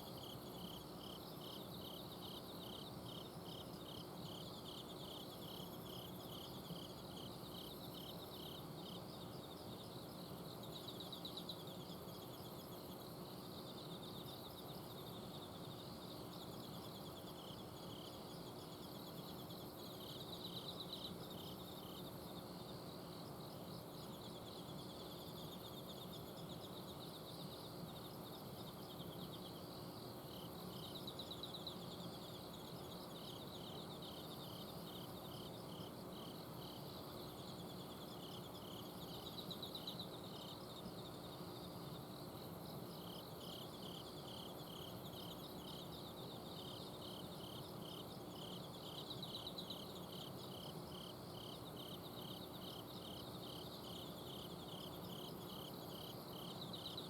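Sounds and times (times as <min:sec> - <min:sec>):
insects trilling: 0:00.0 - 0:57.0
regular pulsed insect chirp: 0:00.0 - 0:57.0.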